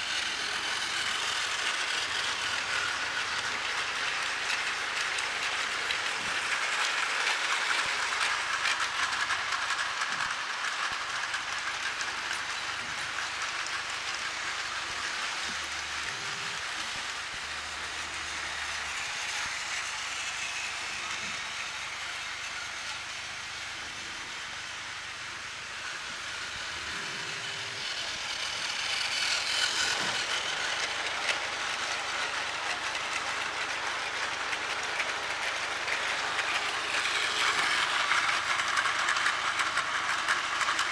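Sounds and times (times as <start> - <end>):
toy train motor whir: 0.0 - 40.9
toy train wheel clatter: 0.0 - 40.9.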